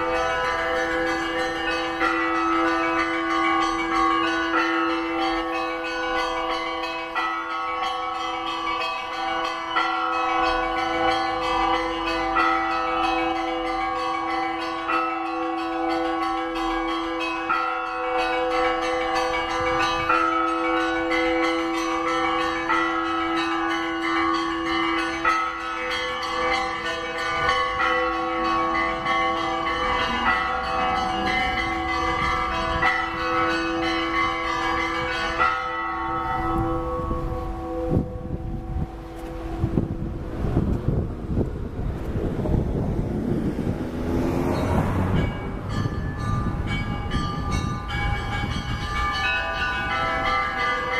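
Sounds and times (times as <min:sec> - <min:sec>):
large bells humming: 0:00.0 - 0:50.9
small church bells ringing: 0:00.0 - 0:50.9.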